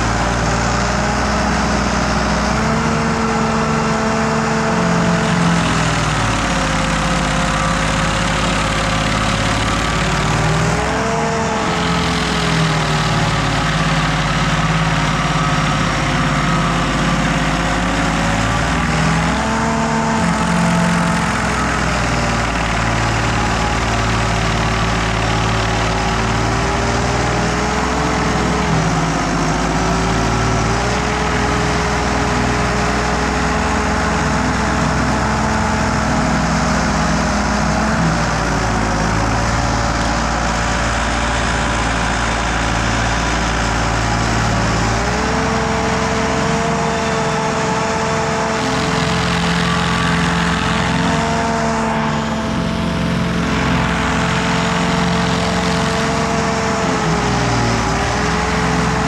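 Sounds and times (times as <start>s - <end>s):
stump grinder running: 0.0s - 59.0s.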